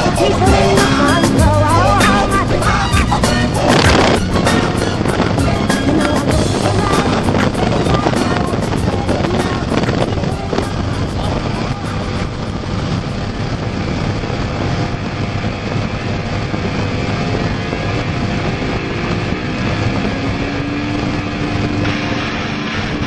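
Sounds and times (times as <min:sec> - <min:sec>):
outboard engine running flat out: 0:00.0 - 0:23.0
water rushing: 0:00.0 - 0:23.0
wind buffeting microphone: 0:00.0 - 0:23.0.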